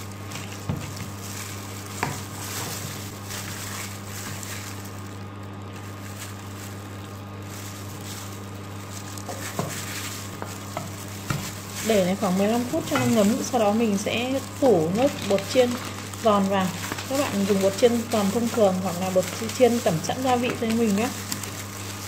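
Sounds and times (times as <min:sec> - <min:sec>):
hand rubbing chicken in bowl: 0:00.0 - 0:22.0
low hum over hiss: 0:00.0 - 0:22.0.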